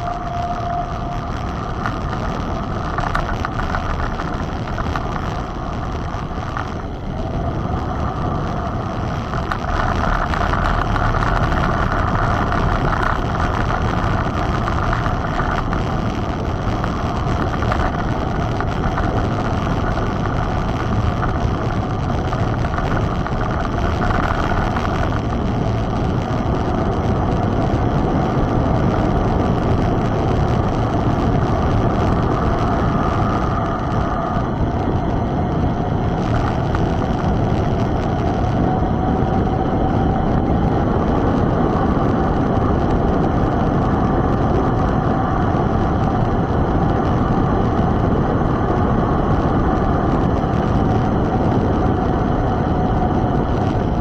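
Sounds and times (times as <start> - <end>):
bike tyres rolling: 0.0 - 54.0
wind on microphone: 0.0 - 54.0.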